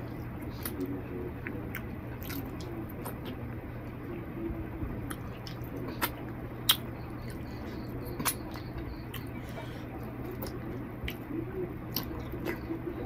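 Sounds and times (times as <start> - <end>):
wet squishy eating sounds: 0.0 - 13.0.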